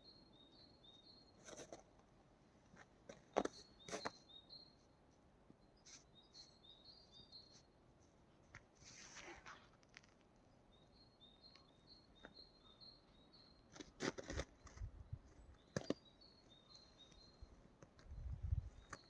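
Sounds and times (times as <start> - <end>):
songbird chirping: 0.0 - 2.1, 2.7 - 19.0.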